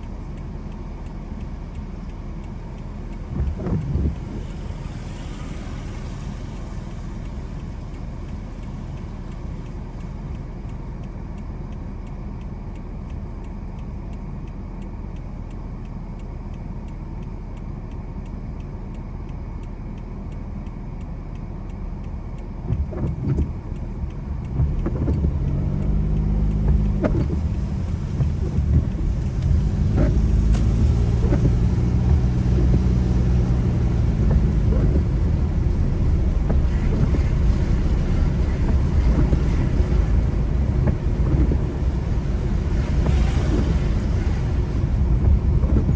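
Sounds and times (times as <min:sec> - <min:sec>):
car road and engine rumble: 0:00.0 - 0:45.9
faint rapid ticking: 0:00.0 - 0:45.9.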